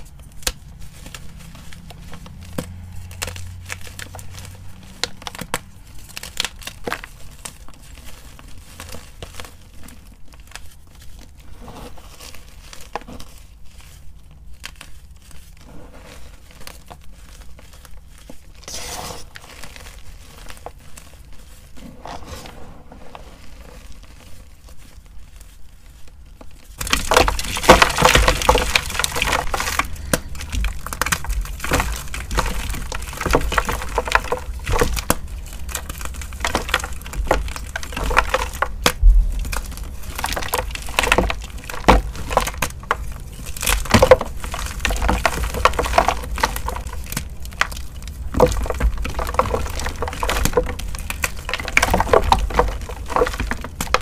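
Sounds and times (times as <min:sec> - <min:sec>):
chalk chunks crunching: 0:00.0 - 0:54.0
fingers crumbling powdery chalk: 0:00.0 - 0:54.0.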